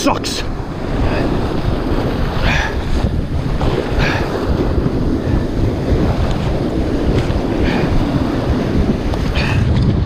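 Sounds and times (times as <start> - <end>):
breaking surf: 0.0 - 10.0
wind buffeting microphone: 0.0 - 10.0.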